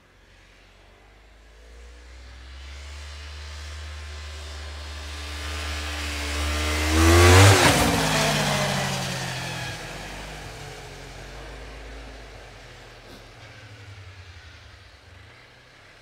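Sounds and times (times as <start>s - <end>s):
snowmobile engine passing by: 0.0s - 16.0s.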